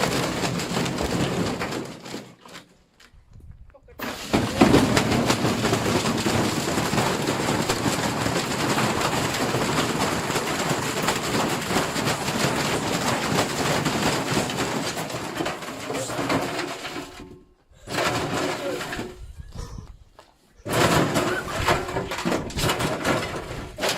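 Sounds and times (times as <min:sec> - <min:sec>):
loud metal clattering and banging: 0:00.0 - 0:02.7, 0:04.0 - 0:19.6, 0:20.6 - 0:23.9.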